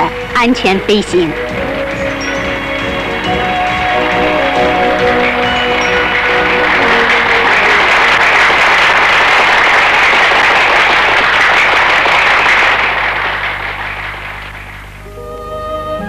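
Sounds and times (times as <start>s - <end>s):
audience applauding: 0.0s - 15.1s.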